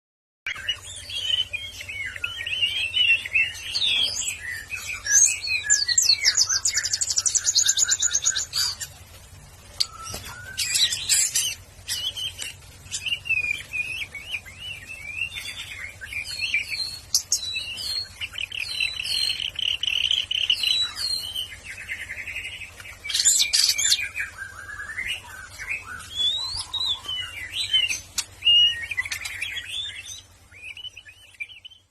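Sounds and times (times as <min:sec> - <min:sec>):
songbird singing whistles and trills: 0:00.5 - 0:08.9, 0:09.8 - 0:31.9.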